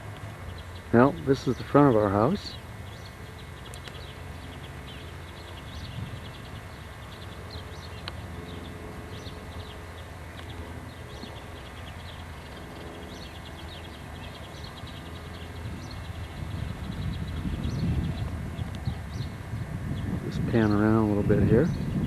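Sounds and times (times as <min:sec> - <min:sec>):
low mechanical hum: 0:00.0 - 0:22.0
bird chirps: 0:00.4 - 0:19.4.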